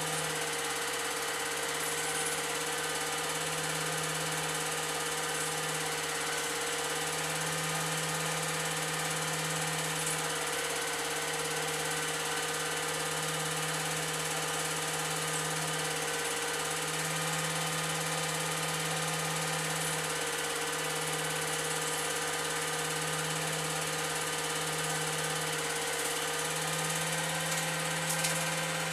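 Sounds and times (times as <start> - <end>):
film projector humming: 0.0 - 28.9.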